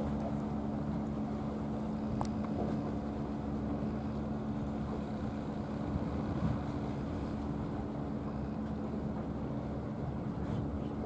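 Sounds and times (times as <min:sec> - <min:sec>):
low mechanical drone: 0:00.0 - 0:11.0
wind rumble on microphone: 0:00.0 - 0:11.0.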